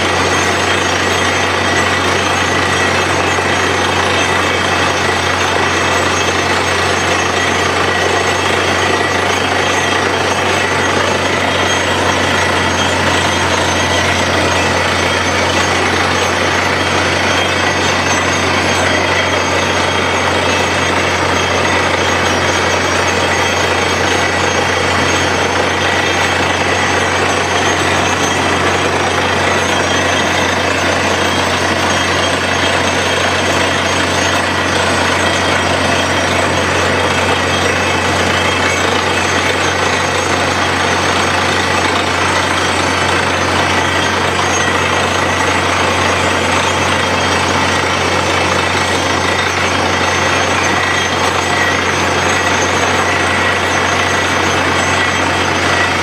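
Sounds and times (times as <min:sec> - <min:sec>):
drilling rig engine and compressor: 0:00.0 - 0:56.0
fast hammering pulse: 0:00.0 - 0:56.0.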